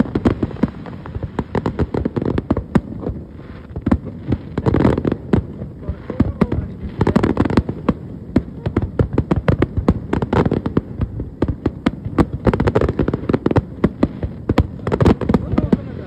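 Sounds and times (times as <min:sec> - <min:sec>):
fireworks bursting with sharp bangs: 0:00.0 - 0:16.0.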